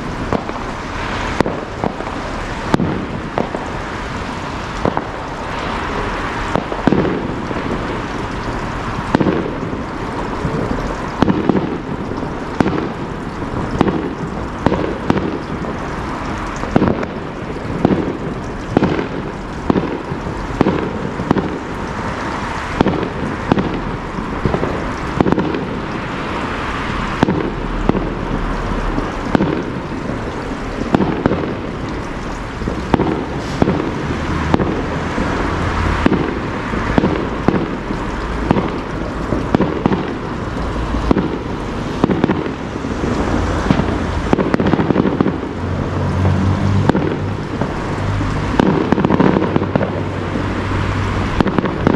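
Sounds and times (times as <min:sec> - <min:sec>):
fireworks bangs: 0:00.0 - 0:51.9
rushing background noise: 0:00.0 - 0:51.9.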